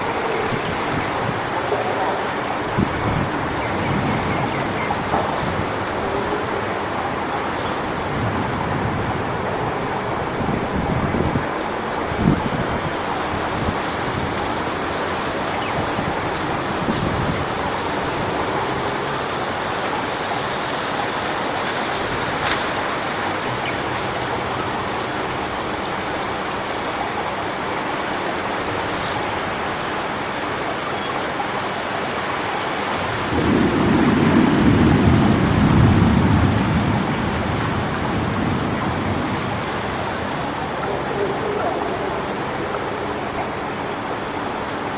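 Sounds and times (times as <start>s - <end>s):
wind rushing through palm fronds: 0.0s - 44.9s.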